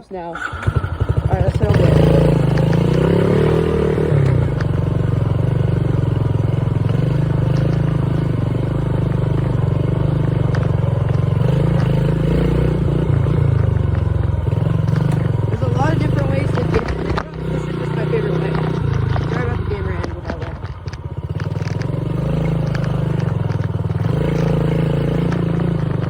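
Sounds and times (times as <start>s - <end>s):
dirt bike engine running: 0.0s - 26.0s
rattling: 0.0s - 26.0s.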